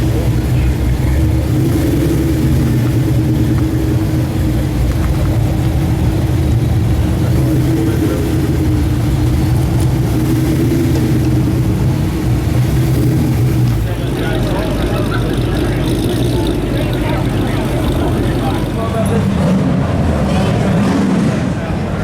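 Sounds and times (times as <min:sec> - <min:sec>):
car engine running at low revs: 0:00.0 - 0:22.0.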